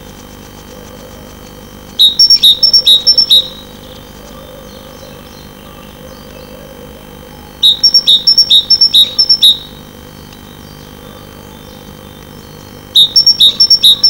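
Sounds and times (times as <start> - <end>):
electrical hum: 0.0 - 14.0
bird calling two-note phrases: 2.0 - 14.0.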